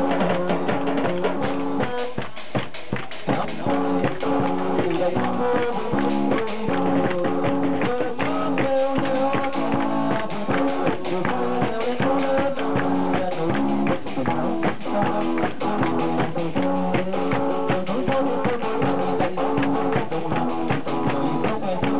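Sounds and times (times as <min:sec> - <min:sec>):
guitar chords: 0:00.0 - 0:02.3, 0:03.0 - 0:21.9
drum kit beat: 0:00.0 - 0:21.9
live band playing: 0:00.0 - 0:21.9.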